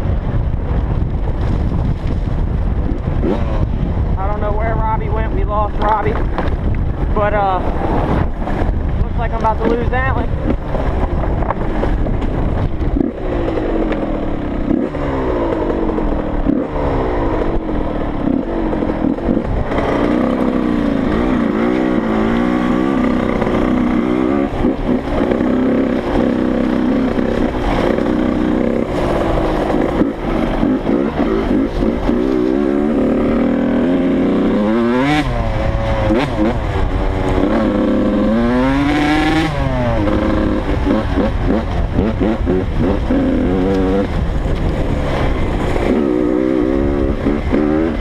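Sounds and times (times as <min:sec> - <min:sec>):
dirt bike engine revving: 0:02.4 - 0:48.0.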